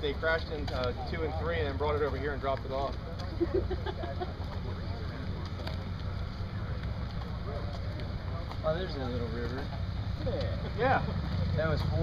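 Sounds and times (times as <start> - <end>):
faint voices of people walking: 0.0 - 12.0.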